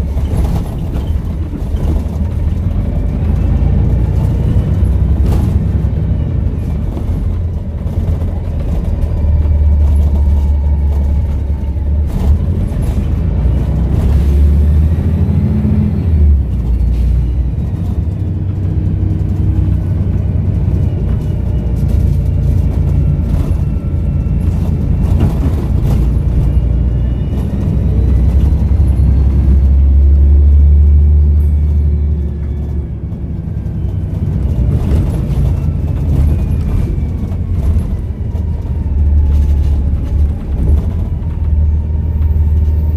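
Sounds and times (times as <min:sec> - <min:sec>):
bus diesel engine rumbling: 0:00.0 - 0:42.9.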